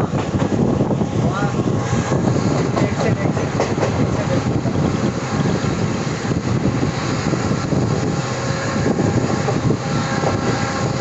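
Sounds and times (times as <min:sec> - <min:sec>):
train wheels rumbling and rattling: 0:00.0 - 0:11.0.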